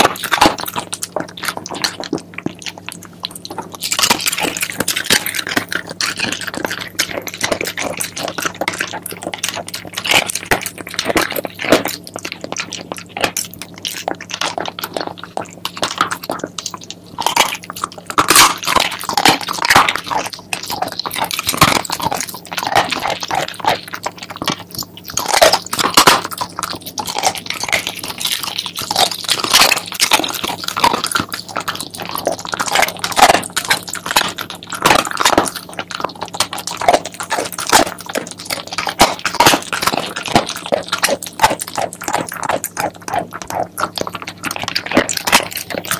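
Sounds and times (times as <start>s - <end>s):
dog crunching bones: 0.0s - 45.9s.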